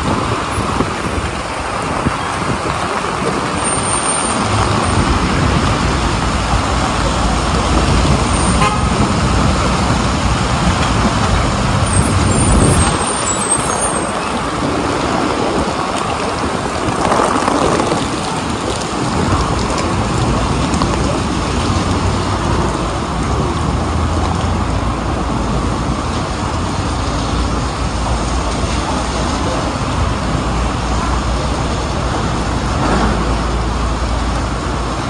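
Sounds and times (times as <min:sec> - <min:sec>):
heavy rain on street: 0:00.0 - 0:35.0
traffic on wet pavement: 0:00.0 - 0:35.0.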